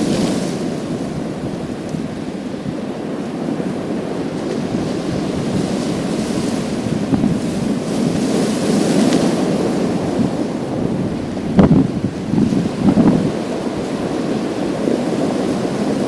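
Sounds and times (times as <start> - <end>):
waves on a pebble beach: 0.0 - 16.0.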